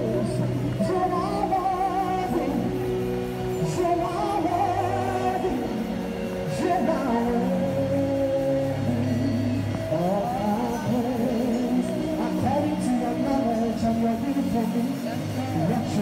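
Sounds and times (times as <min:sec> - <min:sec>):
sustained accompanying tones: 0:00.0 - 0:16.0
woman singing worship song: 0:00.0 - 0:16.0.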